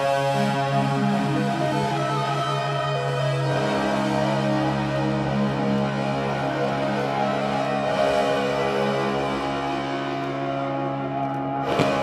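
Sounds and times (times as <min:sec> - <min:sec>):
soundtrack music with held chords: 0:00.0 - 0:12.0.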